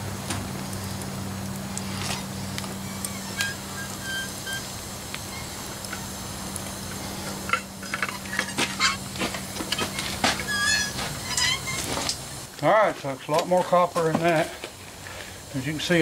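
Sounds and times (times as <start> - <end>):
steady low hum: 0.0 - 16.0
sharp crackles and ticks: 0.2 - 10.5, 11.2 - 15.8.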